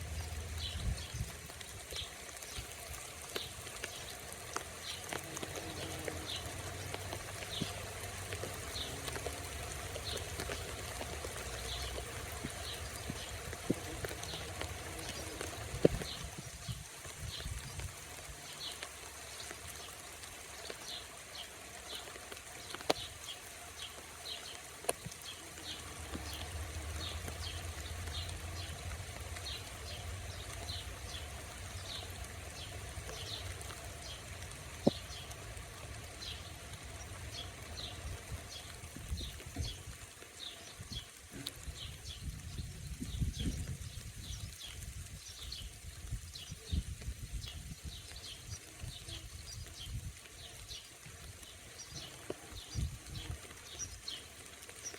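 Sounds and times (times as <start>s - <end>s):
outdoor hiss: 0.0s - 54.9s.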